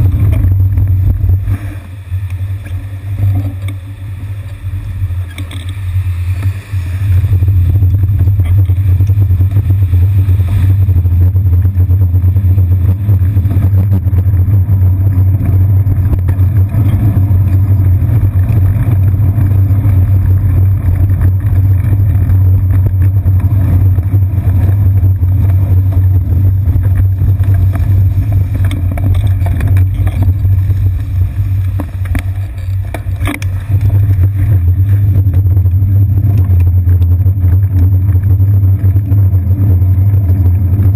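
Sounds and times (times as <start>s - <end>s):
bicycle rumbling over pavement: 0.0s - 40.9s.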